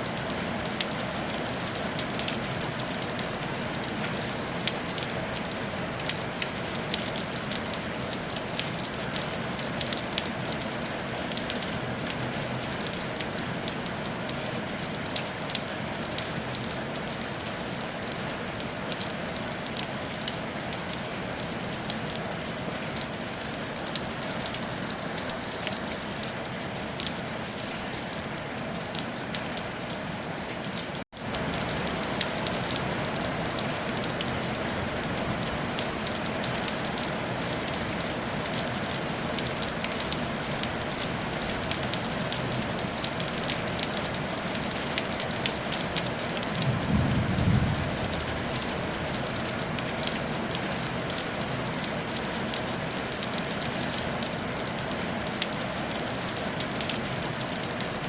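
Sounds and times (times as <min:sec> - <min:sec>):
rain on a tile roof: 0:00.0 - 0:58.0.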